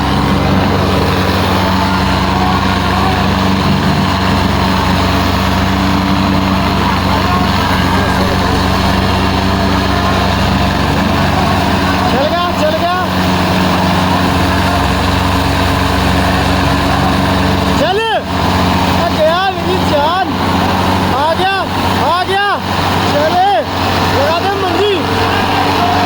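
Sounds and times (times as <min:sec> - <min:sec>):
crowd voices: 0:00.0 - 0:26.0
tractor diesel engines droning: 0:00.0 - 0:26.0.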